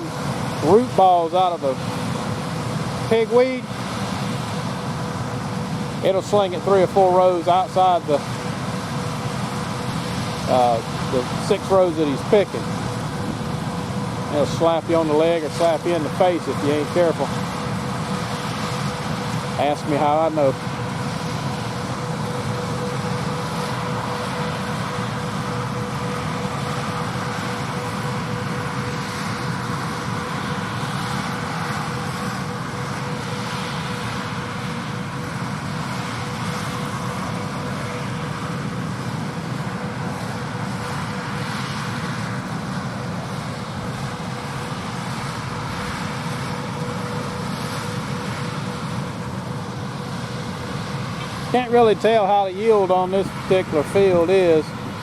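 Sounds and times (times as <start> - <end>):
constant whine: 0.0 - 55.0.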